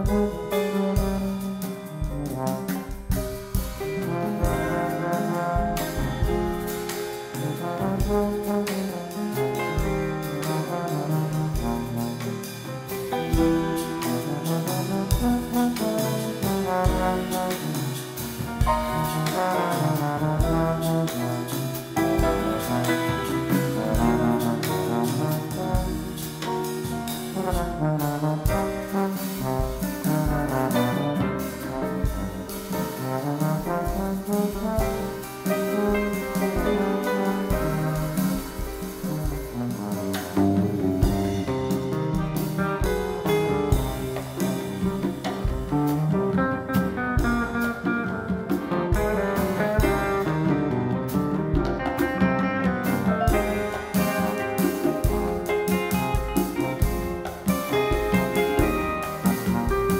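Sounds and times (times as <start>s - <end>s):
live band music: 0.0s - 59.9s
tuba: 0.0s - 59.9s.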